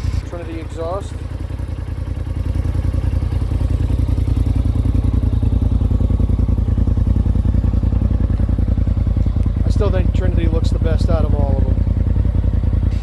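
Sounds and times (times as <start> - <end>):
engine running with deep exhaust: 0.0 - 13.0.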